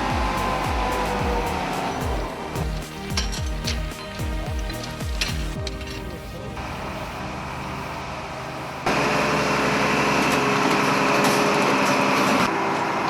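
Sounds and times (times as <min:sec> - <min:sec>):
heavy equipment engine running: 0:00.0 - 0:13.0.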